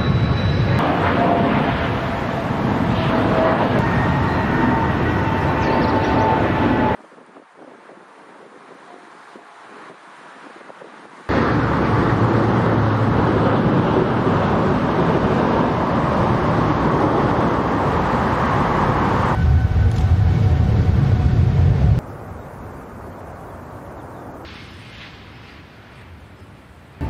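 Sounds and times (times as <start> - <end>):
passing airliner jet engine: 0.0 - 27.0.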